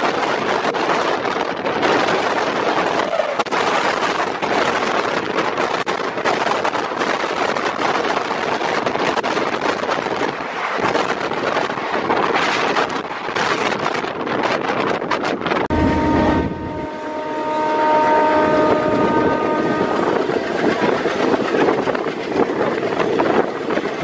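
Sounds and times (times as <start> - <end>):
train running noise: 0.0 - 24.0
wind on microphone: 0.0 - 24.0.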